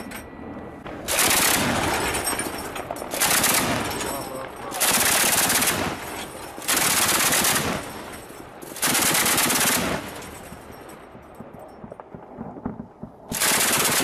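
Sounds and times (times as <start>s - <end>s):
gunfire echo: 0.8s - 14.0s
autocannon firing bursts: 0.9s - 10.8s, 12.6s - 14.0s.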